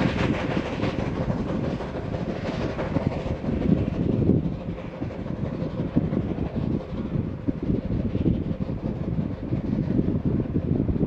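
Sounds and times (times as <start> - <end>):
steam locomotive exhaust beats: 0.0 - 11.0.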